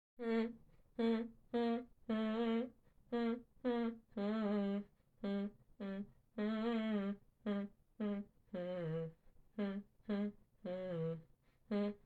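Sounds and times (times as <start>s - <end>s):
person humming a tune: 0.2s - 12.0s.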